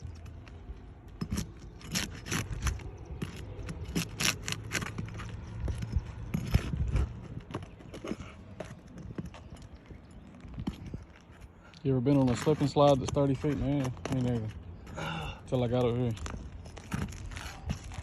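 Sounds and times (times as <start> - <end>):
scrapes and clicks on roof shingles: 0.0 - 18.0.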